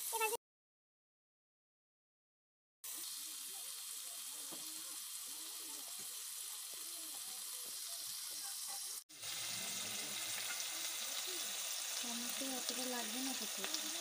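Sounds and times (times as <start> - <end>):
chicken sizzling in pan: 0.0 - 0.4, 2.8 - 14.0.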